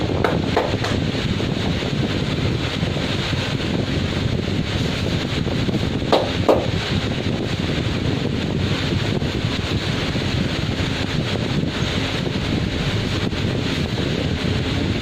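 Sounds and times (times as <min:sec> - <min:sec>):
roadside traffic hiss: 0:00.0 - 0:15.0.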